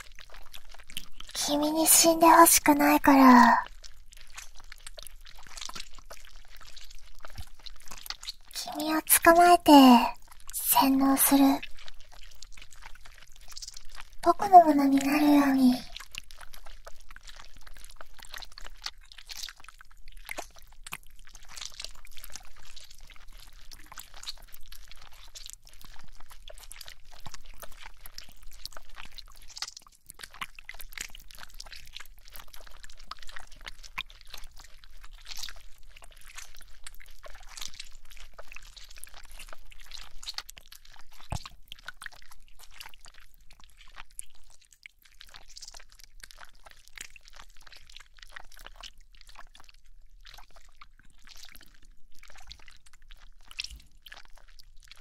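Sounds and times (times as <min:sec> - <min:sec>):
wet clicks and crackles: 0:03.7 - 0:08.6, 0:11.6 - 0:14.2, 0:15.9 - 0:55.0.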